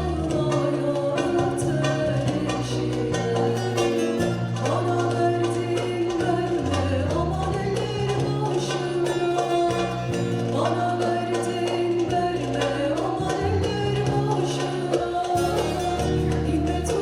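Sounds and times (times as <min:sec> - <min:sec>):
folk ensemble playing: 0:00.0 - 0:17.0
person singing: 0:00.0 - 0:17.0.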